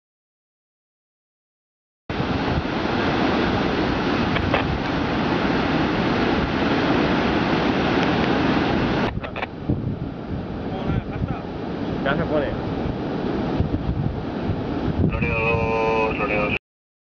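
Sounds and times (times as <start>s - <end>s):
wind buffeting microphone: 2.1s - 16.0s
large waves breaking: 2.1s - 16.6s.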